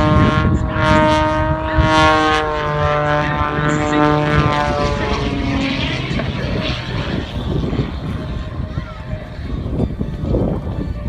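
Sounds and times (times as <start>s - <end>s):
propeller plane droning overhead: 0.0s - 11.0s.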